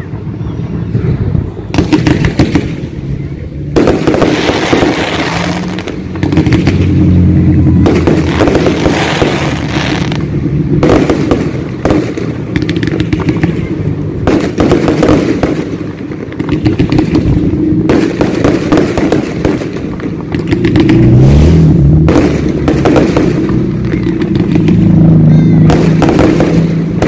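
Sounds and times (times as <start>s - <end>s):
fireworks banging and crackling: 0.0s - 27.0s.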